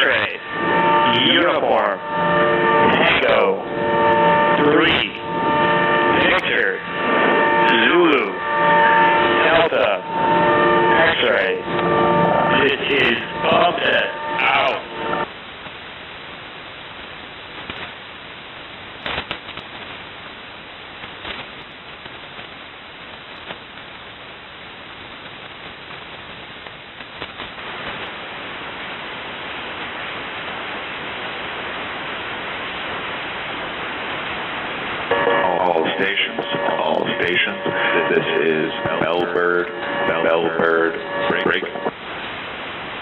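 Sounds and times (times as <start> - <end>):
radio receiver hiss: 0.0 - 43.0
sharp static crackles: 0.0 - 43.0.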